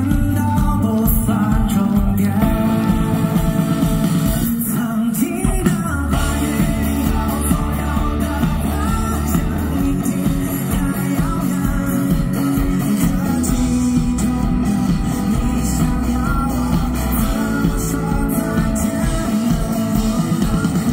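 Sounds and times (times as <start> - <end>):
drums: 0.0 - 20.9
electric guitar: 0.0 - 20.9
person singing into microphone: 0.0 - 20.9.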